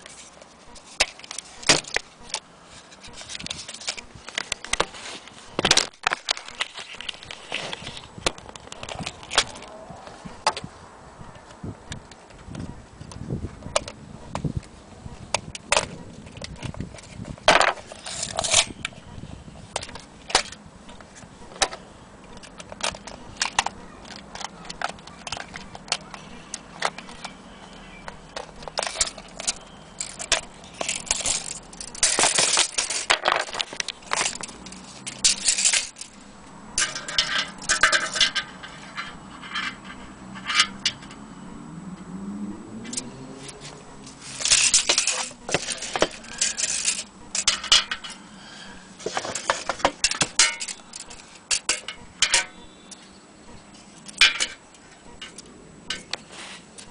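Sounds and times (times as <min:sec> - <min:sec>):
handling clicks and rustles: 0:00.0 - 0:56.9.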